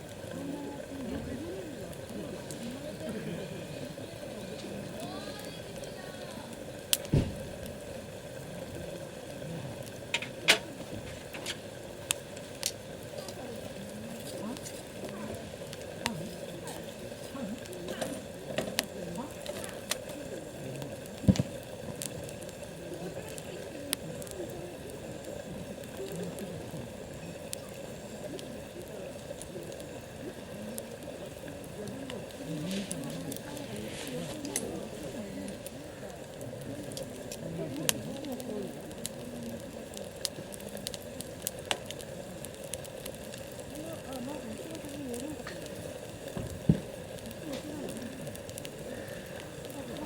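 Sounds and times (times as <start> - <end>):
campfire crackling: 0.0 - 50.0
fire popping: 0.0 - 50.0
food bubbling in a pan: 0.0 - 50.0.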